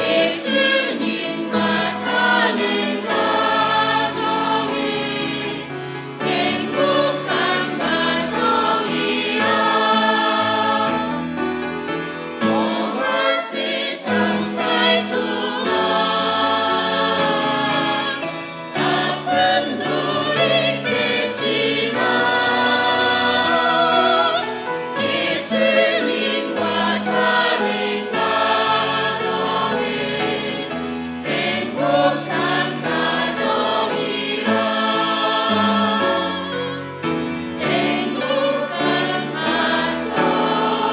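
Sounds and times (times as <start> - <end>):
group singing in harmony: 0.0 - 40.9.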